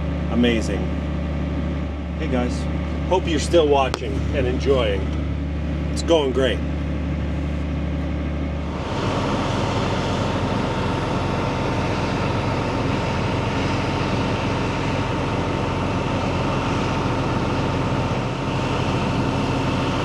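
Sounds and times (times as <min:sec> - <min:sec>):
farm machinery running: 0:00.0 - 0:20.0.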